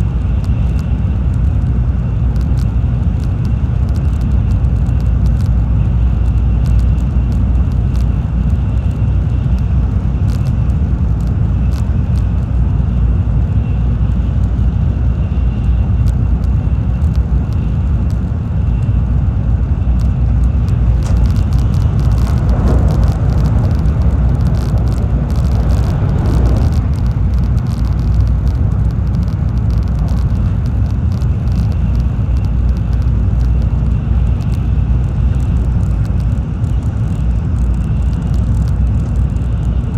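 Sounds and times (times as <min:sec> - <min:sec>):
train cabin low rumble: 0:00.0 - 0:39.9.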